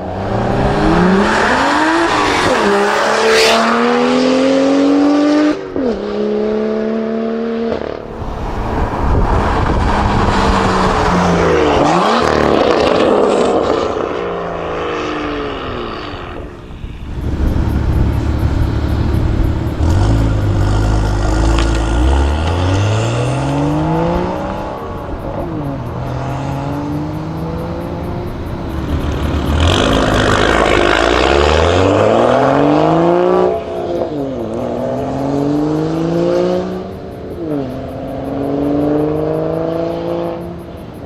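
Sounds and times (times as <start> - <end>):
car engine accelerating hard: 0.0 - 16.5, 17.1 - 41.0.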